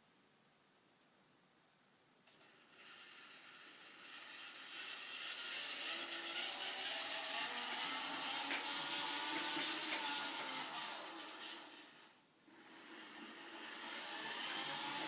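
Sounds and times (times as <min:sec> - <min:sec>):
robot vacuum motors whirring: 0:02.3 - 0:15.0.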